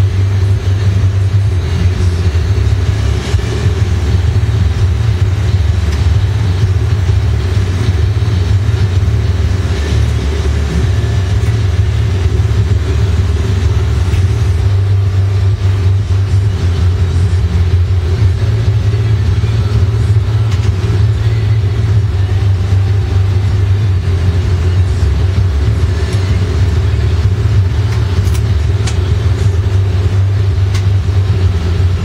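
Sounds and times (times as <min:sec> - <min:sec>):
torch burning with low rumble: 0:00.0 - 0:32.0.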